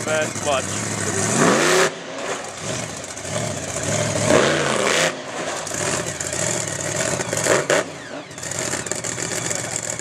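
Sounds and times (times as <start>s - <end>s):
truck engine revving loudly: 0.0s - 10.0s.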